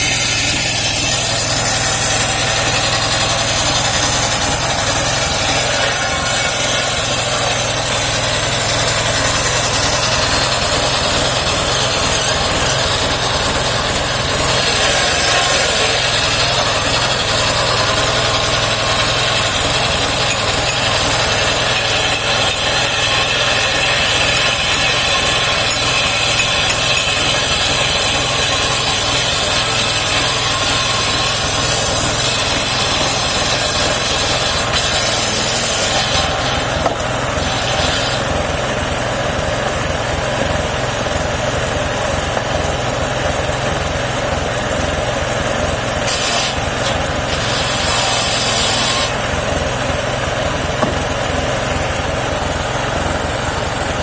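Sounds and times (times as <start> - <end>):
circular sawmill blade cutting wood: 0.0 - 54.0.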